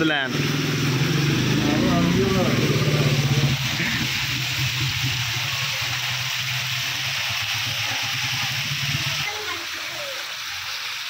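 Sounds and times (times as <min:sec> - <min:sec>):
small motorcycle engine running: 0:00.0 - 0:09.4
heavy rain hissing: 0:00.0 - 0:11.0.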